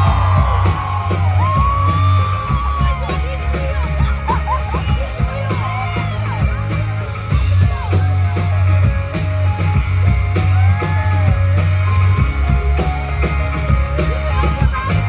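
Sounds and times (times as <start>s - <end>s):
drums: 0.0s - 15.0s
electric guitar bending notes: 0.0s - 15.0s
low bass line: 0.0s - 15.0s.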